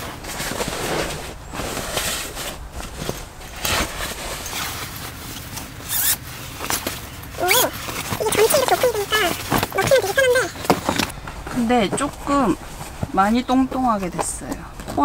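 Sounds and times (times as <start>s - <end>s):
fabric rustling and swishing: 0.0s - 14.1s.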